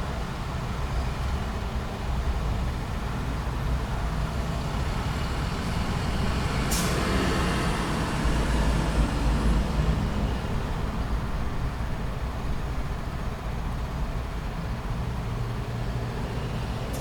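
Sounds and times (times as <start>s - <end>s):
heavy vehicle engines rumbling: 0.0s - 17.0s.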